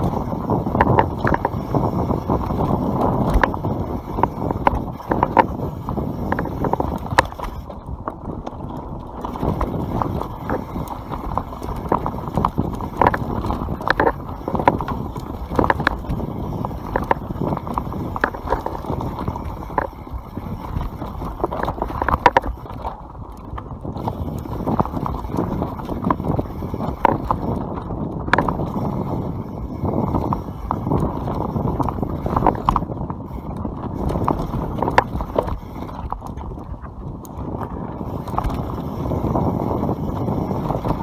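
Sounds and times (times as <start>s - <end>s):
bike clattering over bumps: 0.0s - 41.0s
bike tyres rumbling over dirt: 0.0s - 41.0s.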